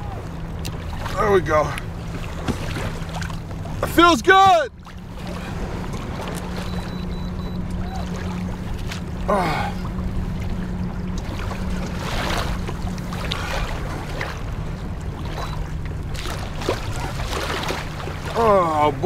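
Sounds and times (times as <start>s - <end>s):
steady low hum: 0.0s - 19.0s
water washing along hull: 0.0s - 19.0s.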